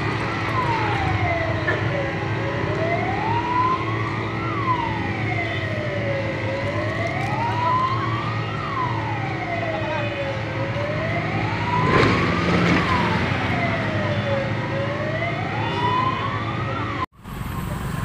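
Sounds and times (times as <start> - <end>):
fire engine siren wailing: 0.0 - 18.0.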